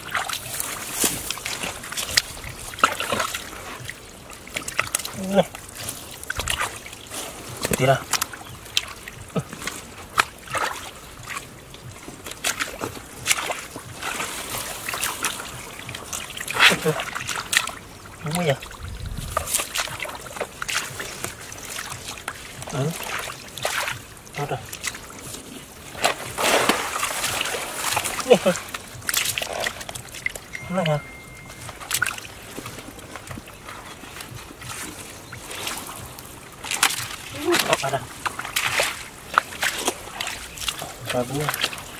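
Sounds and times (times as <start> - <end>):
muddy water sloshing and splashing: 0.0 - 41.9.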